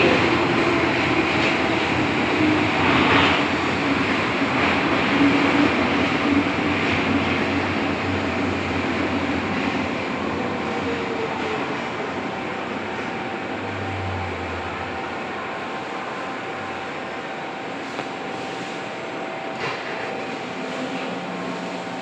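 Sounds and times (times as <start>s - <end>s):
train rumble with low hum: 0.0s - 22.0s.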